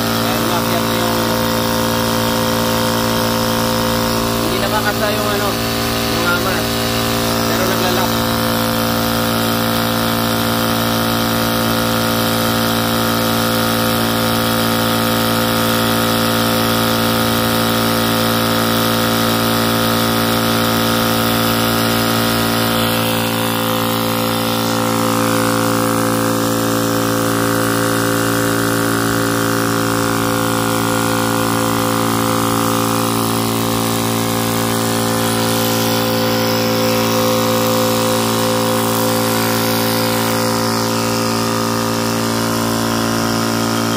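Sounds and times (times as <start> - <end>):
air compressor motor humming: 0.0 - 43.9.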